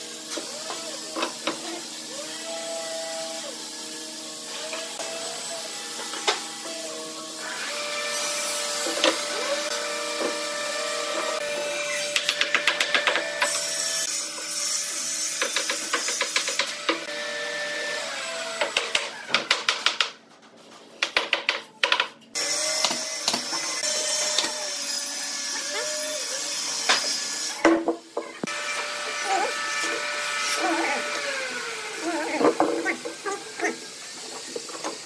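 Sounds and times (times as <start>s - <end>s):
workshop hum: 0.0s - 35.0s.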